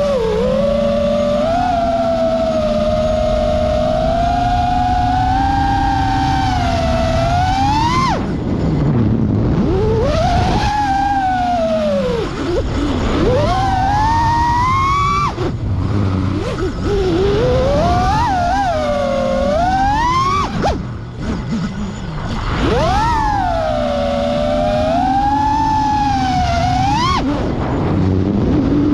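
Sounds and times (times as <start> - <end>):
quadcopter motors whining: 0.0 - 28.9.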